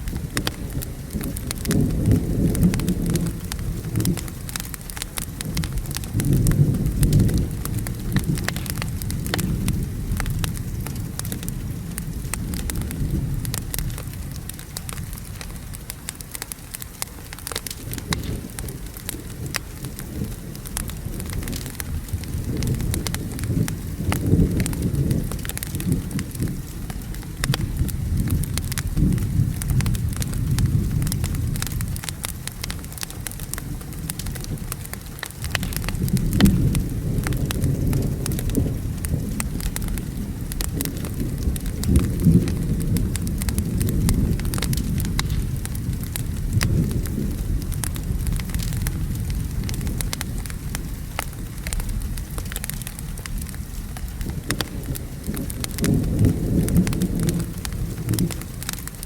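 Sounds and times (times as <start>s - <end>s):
rolling rumble of thunder: 0.0s - 16.2s, 17.4s - 59.0s
steady rain: 0.0s - 59.0s
wood fire crackling and popping: 0.0s - 59.0s.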